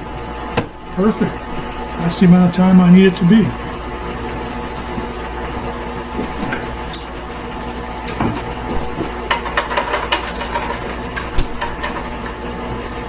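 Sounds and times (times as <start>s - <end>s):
stand mixer motor running: 0.0s - 13.0s.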